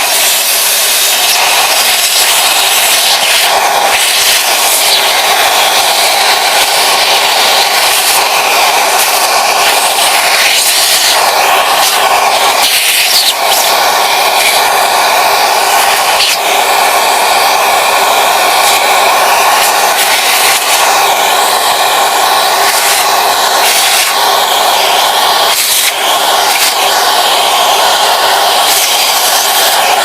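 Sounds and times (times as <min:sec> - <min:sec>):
vacuum cleaner motor running: 0:00.0 - 0:30.0.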